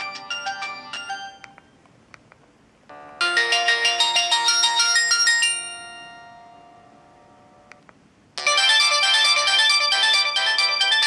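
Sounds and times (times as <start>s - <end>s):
phone ringtone melody: 0.0s - 1.6s, 2.9s - 7.7s, 8.4s - 11.0s.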